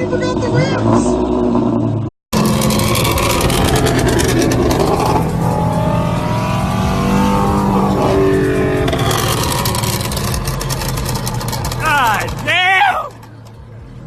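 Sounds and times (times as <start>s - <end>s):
car engine revving high: 0.0s - 13.2s.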